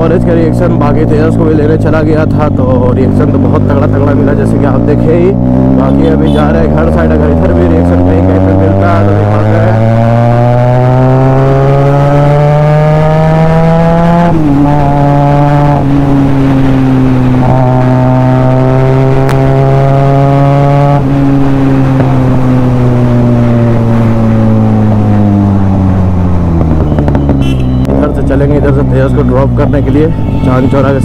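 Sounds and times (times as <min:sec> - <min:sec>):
motorcycle engine and exhaust: 0:00.0 - 0:31.0.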